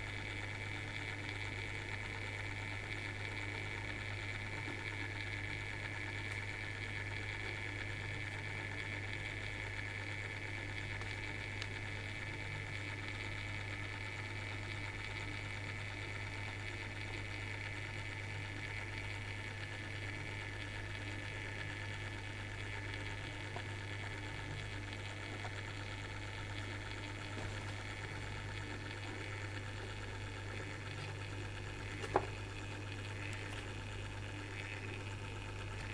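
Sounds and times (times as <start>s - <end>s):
small motor humming: 0.0s - 35.9s.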